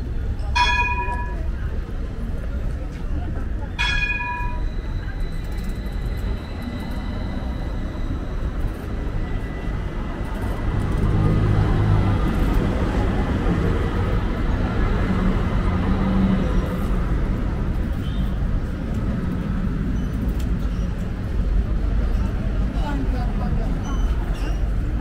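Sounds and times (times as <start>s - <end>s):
busy city street noise: 0.0s - 25.0s
vehicle low rumble: 0.0s - 25.0s.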